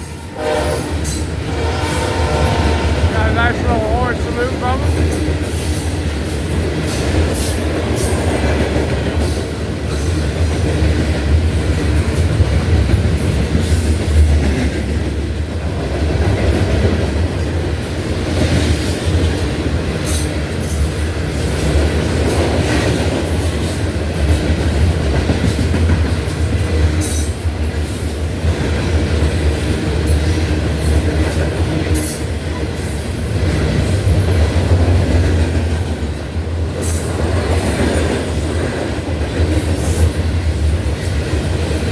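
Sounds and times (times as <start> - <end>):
freight train rumble: 0.0 - 41.9.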